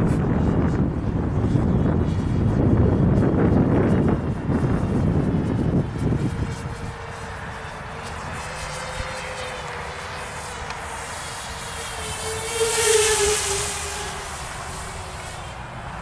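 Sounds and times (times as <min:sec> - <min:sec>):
quadcopter propellers buzzing: 0:00.0 - 0:16.0.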